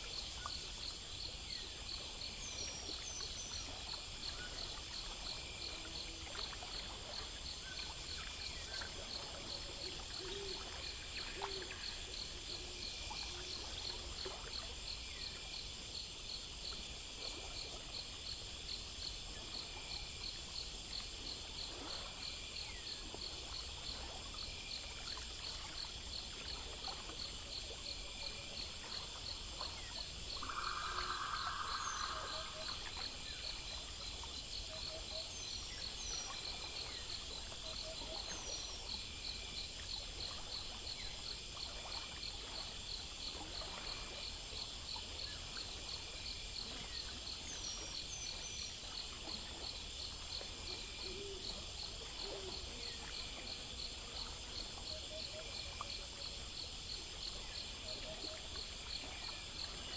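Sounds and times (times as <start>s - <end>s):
crickets and insects chirping: 0.0s - 59.9s.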